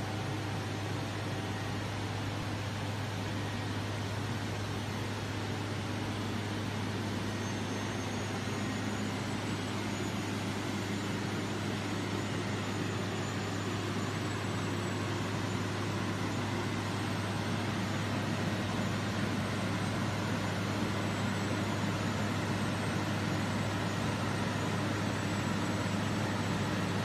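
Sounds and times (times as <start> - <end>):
machine din of blowers and motors: 0.0 - 27.0.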